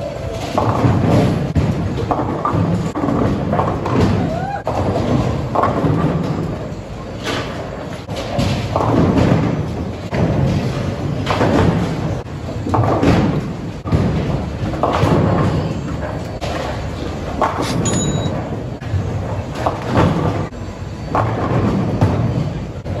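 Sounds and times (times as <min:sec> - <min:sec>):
bowling balls rolling: 0:00.0 - 0:23.0
balls crashing into pins: 0:00.3 - 0:22.8.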